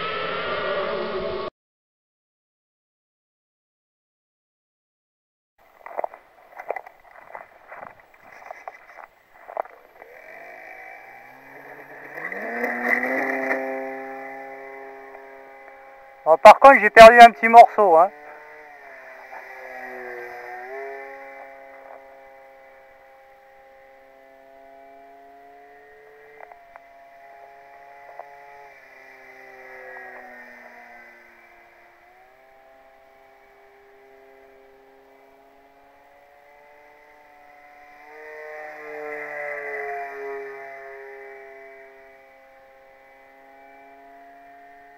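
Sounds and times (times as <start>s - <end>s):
model plane motor whine: 5.8s - 16.9s, 17.5s - 44.9s.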